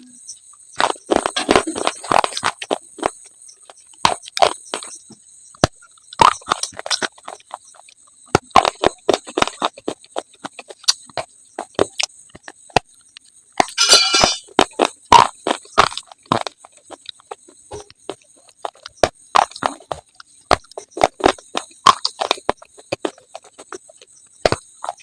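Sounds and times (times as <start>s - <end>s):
crunching and chewing slate: 0.6s - 25.0s.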